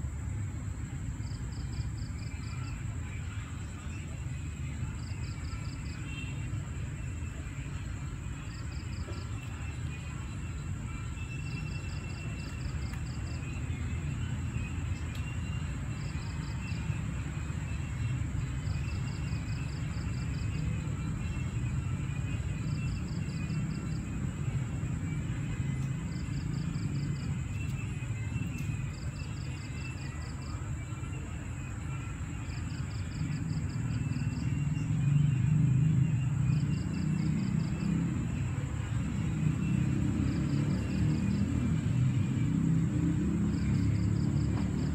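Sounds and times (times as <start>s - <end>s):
cricket chirping: 0.0s - 44.9s.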